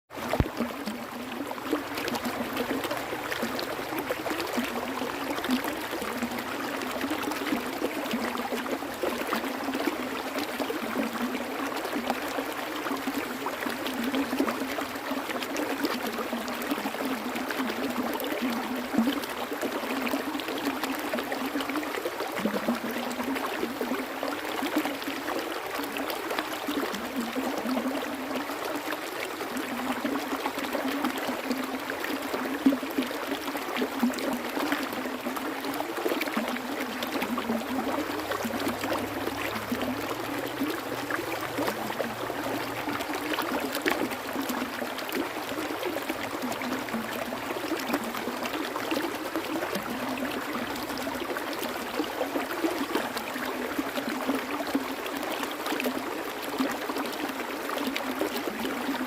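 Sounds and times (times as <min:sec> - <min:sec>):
flowing water: 0:00.1 - 0:59.0.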